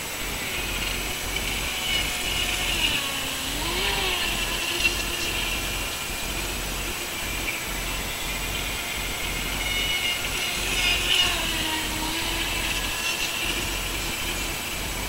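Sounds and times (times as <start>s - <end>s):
rc boat motor whine: 0.0s - 15.0s
water hiss: 0.0s - 15.0s.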